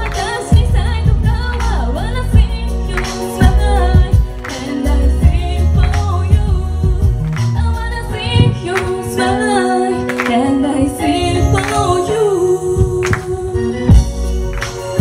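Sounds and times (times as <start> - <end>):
women singing into microphones: 0.0 - 14.3
backing music with pulsing beat: 0.0 - 15.0.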